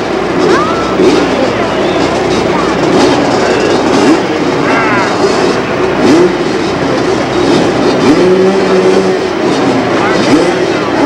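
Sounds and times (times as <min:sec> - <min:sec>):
engines revving: 0:00.0 - 0:11.0
noisy din: 0:00.0 - 0:11.0.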